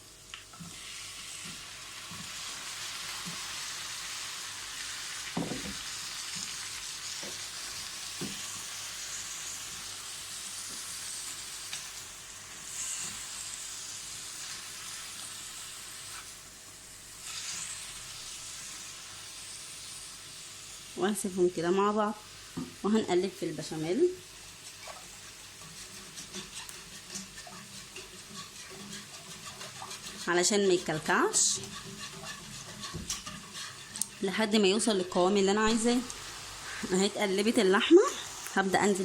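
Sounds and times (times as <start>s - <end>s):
meat sizzling in a pot: 0.0s - 39.0s.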